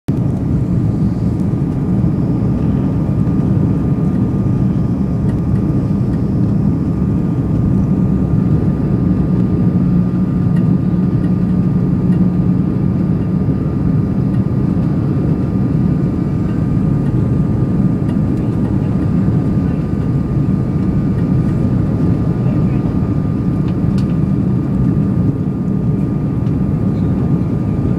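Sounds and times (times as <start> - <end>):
airliner cabin roar: 0.1 - 27.9.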